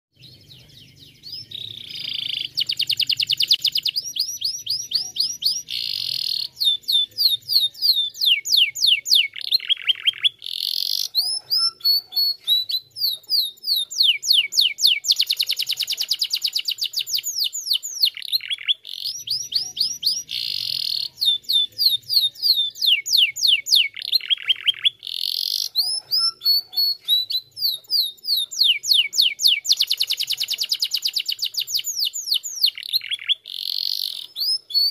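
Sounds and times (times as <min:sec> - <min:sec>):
canary singing: 0:00.1 - 0:34.9.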